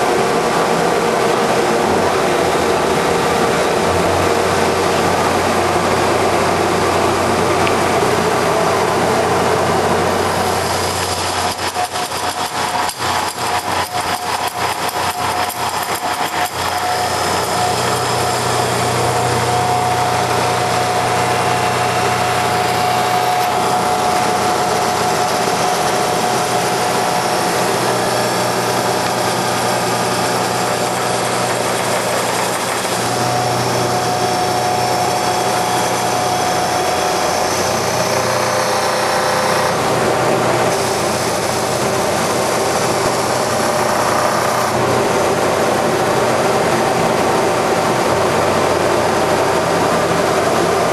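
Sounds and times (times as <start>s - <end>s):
whining tone: 0.0s - 50.9s
wood lathe machine drone: 0.0s - 50.9s.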